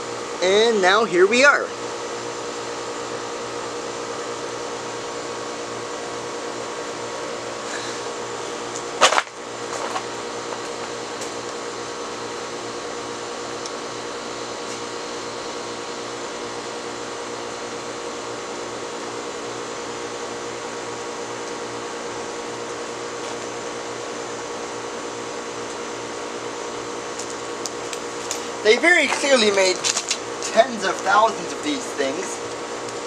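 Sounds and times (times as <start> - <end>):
ceiling fan humming: 0.0 - 33.0.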